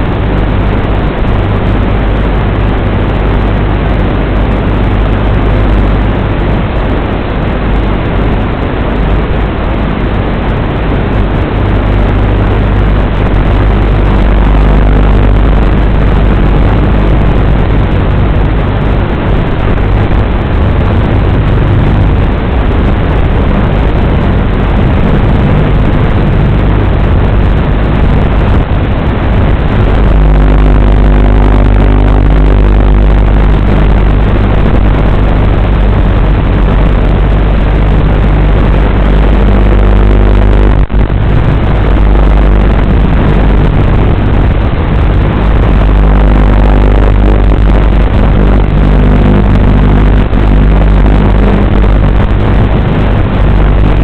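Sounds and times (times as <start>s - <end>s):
low hum: 0.0s - 54.0s
rushing noise: 0.0s - 54.0s.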